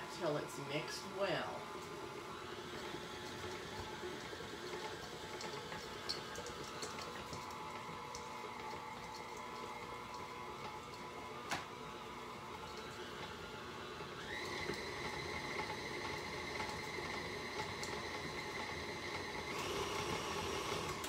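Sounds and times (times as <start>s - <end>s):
stand mixer running: 0.0s - 21.0s.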